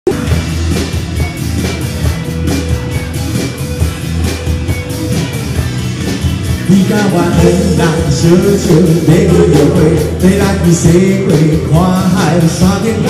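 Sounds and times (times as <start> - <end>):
drum kit beat: 0.0 - 13.0
heavy bass: 0.0 - 13.0
electric guitars: 0.1 - 13.0.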